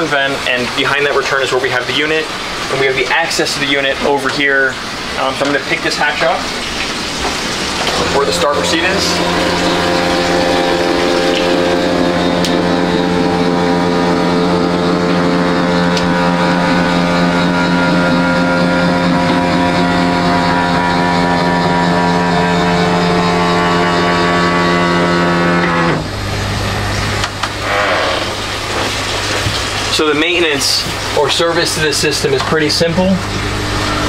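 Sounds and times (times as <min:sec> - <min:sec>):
air conditioner humming: 0:00.0 - 0:34.0
low dull hum: 0:06.4 - 0:34.0.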